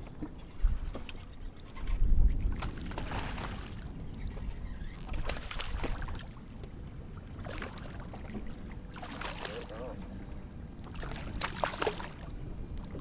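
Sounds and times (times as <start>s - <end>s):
water lapping against hull: 0.0s - 13.0s.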